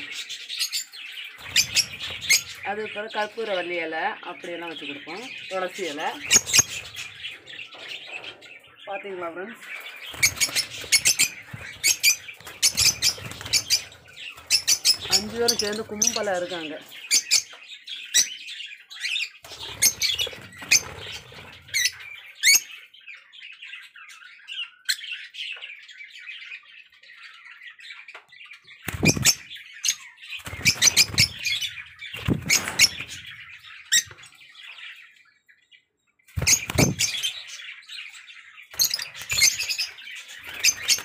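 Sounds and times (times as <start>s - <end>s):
lovebirds chirping and squawking: 0.0s - 41.0s.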